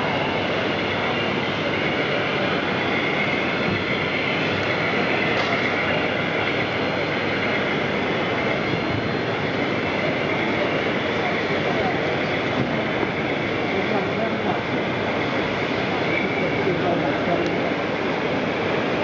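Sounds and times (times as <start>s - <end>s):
busy hall background noise: 0.0s - 19.0s.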